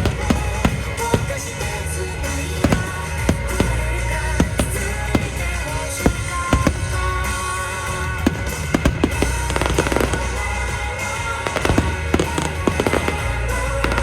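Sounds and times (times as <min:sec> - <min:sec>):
fireworks bangs and crackles: 0:00.0 - 0:14.0
music with deep bass: 0:00.0 - 0:14.0.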